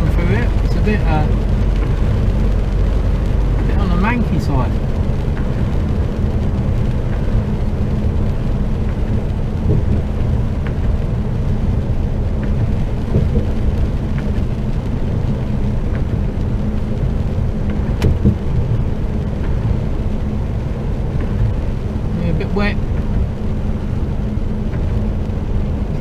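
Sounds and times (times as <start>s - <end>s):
truck engine drone: 0.0s - 26.0s
tyre noise on wet road: 0.0s - 26.0s.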